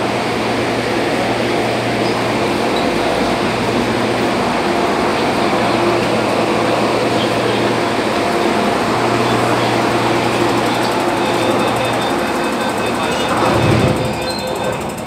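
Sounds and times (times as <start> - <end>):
subway platform hum and hiss: 0.0 - 15.0.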